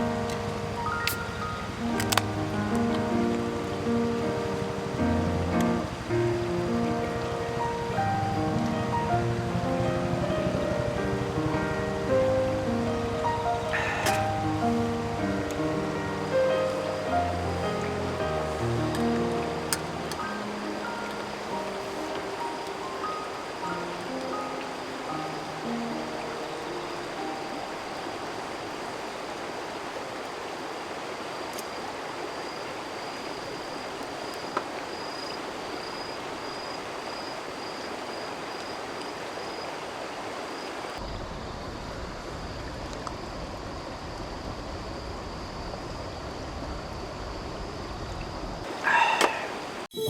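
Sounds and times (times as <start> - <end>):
stream flowing: 0.0 - 41.0, 48.6 - 50.0.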